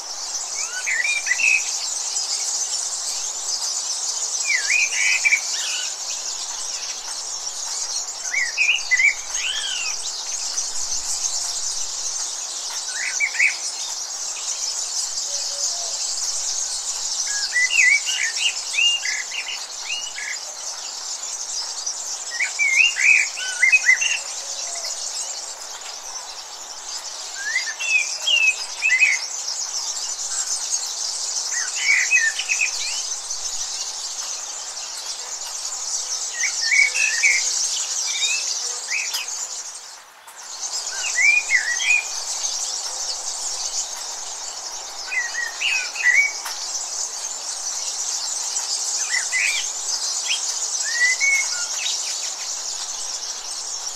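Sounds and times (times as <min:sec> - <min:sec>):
bird chirping: 0:00.0 - 0:53.9
insects chirring: 0:00.0 - 0:53.9.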